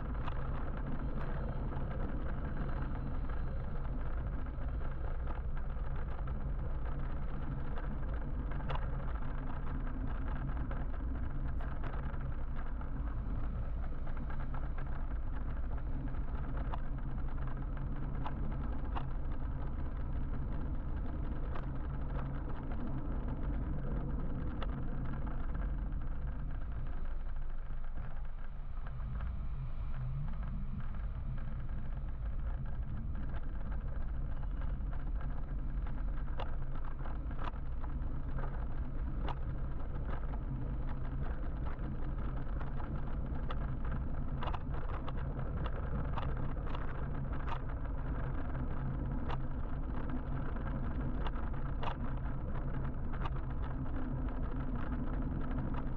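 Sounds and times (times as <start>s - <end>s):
faint ticks: 0.0s - 55.9s
traffic and road noise: 0.0s - 55.9s
wind rumble on microphone: 0.0s - 55.9s.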